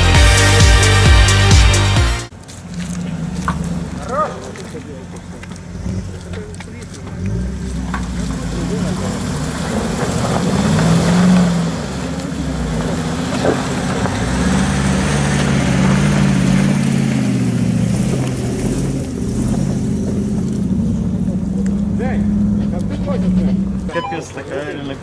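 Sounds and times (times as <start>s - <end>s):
off-road engines droning: 0.0s - 25.0s.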